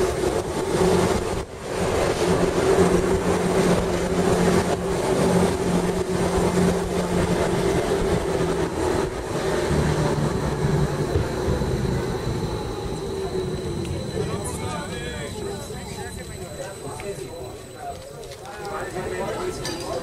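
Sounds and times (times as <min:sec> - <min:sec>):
rail rumble: 0:00.0 - 0:20.0
train drive whine: 0:00.0 - 0:20.0.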